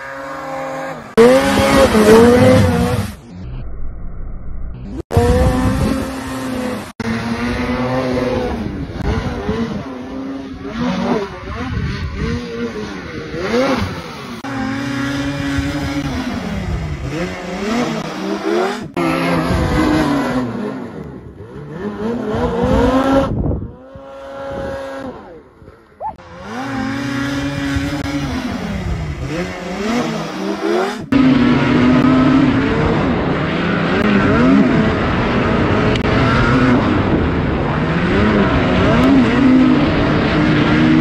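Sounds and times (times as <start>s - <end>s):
snowmobile engines revving: 0.0s - 3.3s, 5.0s - 41.0s.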